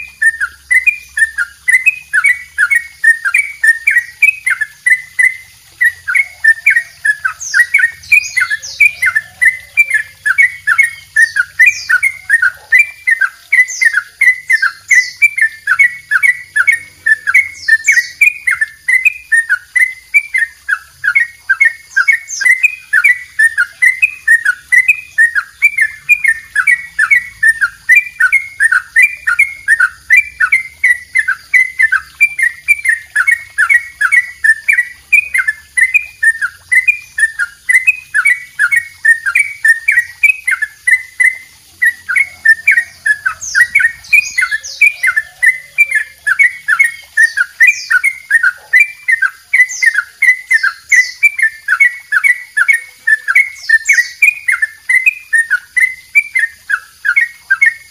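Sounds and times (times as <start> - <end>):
bulbul singing bubbly trill: 0.0 - 57.9.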